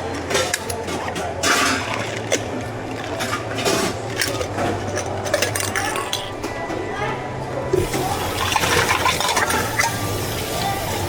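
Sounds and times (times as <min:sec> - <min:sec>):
utensils clicking and clattering: 0:00.0 - 0:06.6, 0:07.8 - 0:10.7
low machine hum: 0:00.0 - 0:11.0.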